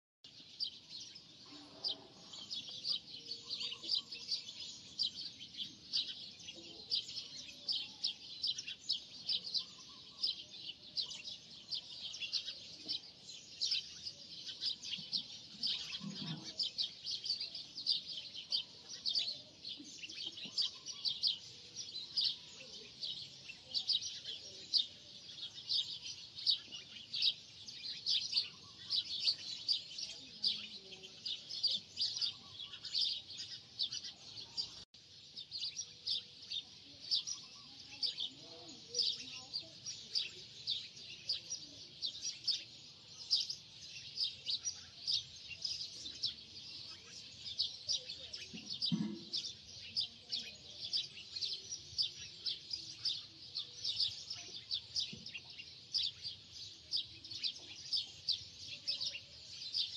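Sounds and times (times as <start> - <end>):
small birds chirping: 0.2 - 59.9.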